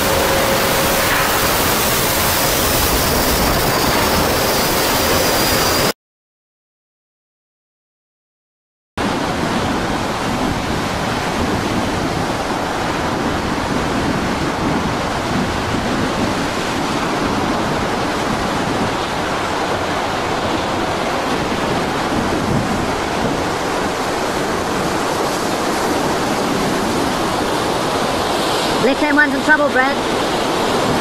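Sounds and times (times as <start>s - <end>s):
heavy waves breaking: 0.0s - 5.9s, 9.0s - 31.0s
wind: 0.0s - 5.9s, 9.0s - 31.0s.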